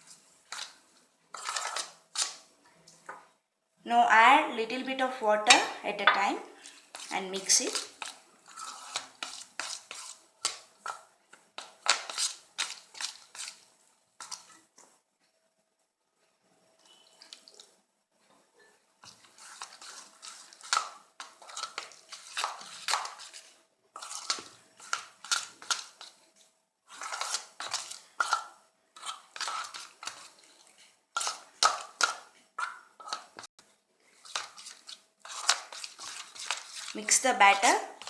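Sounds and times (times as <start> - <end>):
spoon scraping batter in bowl: 0.0 - 3.3, 5.5 - 15.0, 19.0 - 33.5, 34.1 - 38.0.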